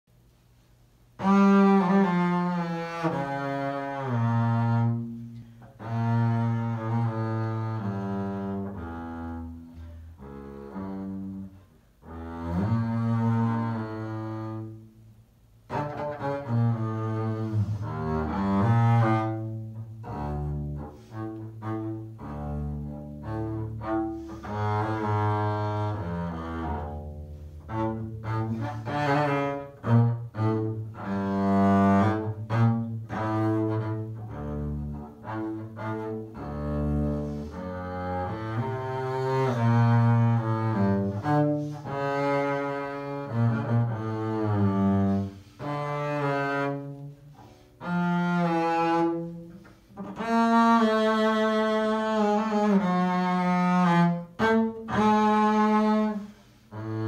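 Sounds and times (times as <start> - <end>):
bowed double bass: 0.1 - 57.0.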